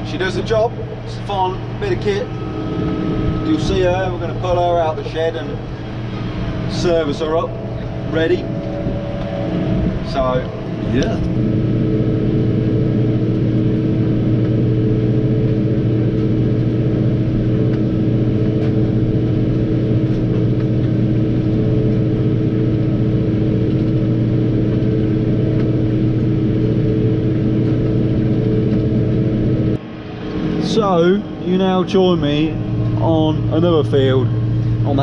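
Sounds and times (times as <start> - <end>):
tractor engine droning: 0.0 - 35.0.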